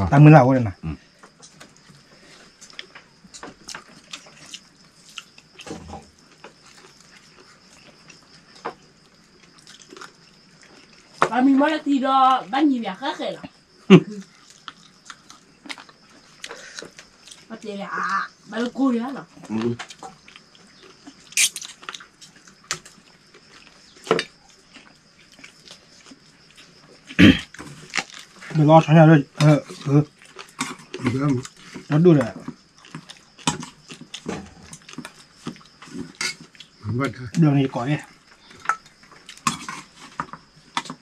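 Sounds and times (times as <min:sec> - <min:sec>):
people chewing: 0:00.8 - 0:11.3, 0:13.4 - 0:17.6, 0:19.4 - 0:41.0.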